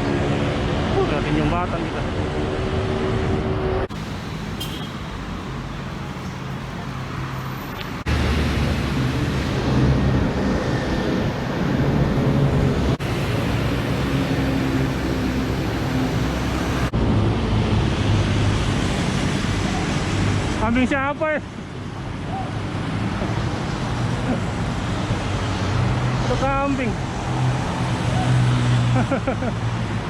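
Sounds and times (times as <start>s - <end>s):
road traffic: 0.0s - 30.0s.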